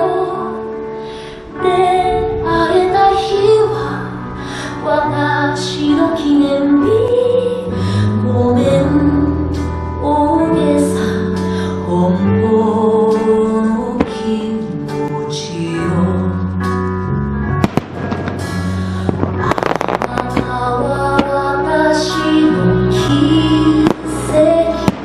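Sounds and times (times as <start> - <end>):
person singing with instrumental backing: 0.0 - 16.8, 18.4 - 25.0.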